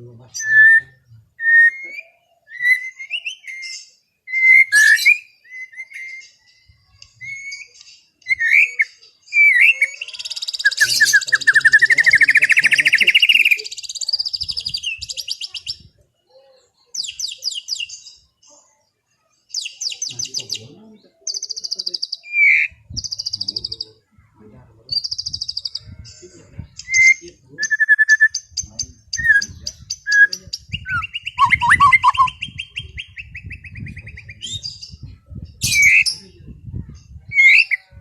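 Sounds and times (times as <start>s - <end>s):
bird singing whistled notes: 0.4s - 15.9s, 17.0s - 18.1s, 21.3s - 24.0s, 24.9s - 25.9s, 26.8s - 36.3s, 37.3s - 38.0s.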